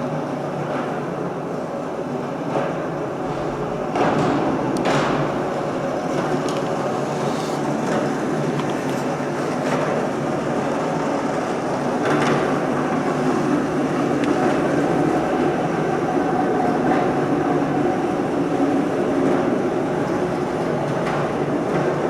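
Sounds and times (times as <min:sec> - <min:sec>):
machine rumble and clatter: 0:00.0 - 0:22.0.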